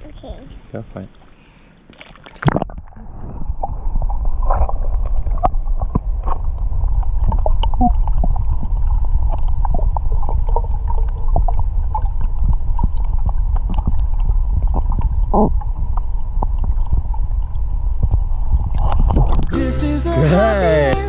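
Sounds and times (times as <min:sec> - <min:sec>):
underwater bubble pops and clicks: 0:01.9 - 0:19.5
underwater low rumble: 0:02.4 - 0:19.6.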